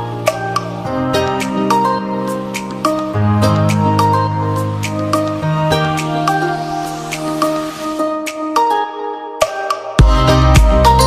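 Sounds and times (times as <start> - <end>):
synth chords: 0.0 - 11.0.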